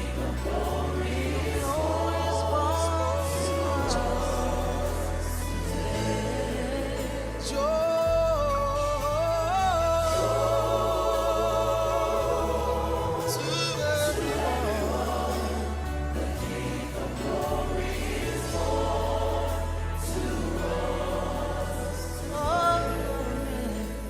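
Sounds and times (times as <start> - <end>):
gospel choir singing: 0.0 - 24.0
instrumental backing with bass: 0.0 - 24.0.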